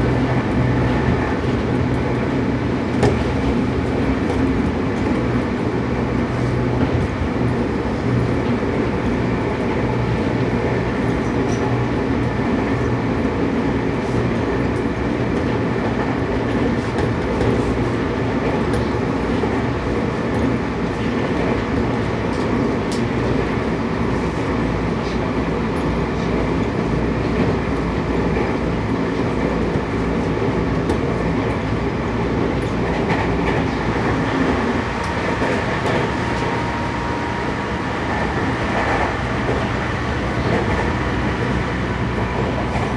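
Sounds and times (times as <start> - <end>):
steady train motor hum: 0.0 - 42.9
train wheels rumbling on rail: 0.0 - 42.9.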